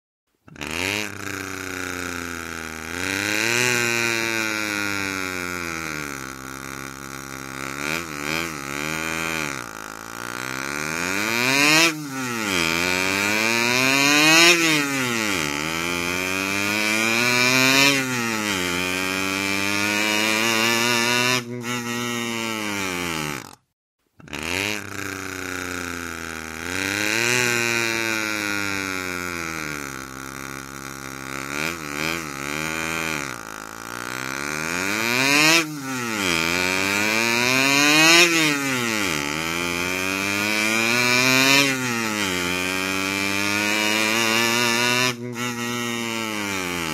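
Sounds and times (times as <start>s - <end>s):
cartoon motorbike engine revving: 0.4s - 46.9s.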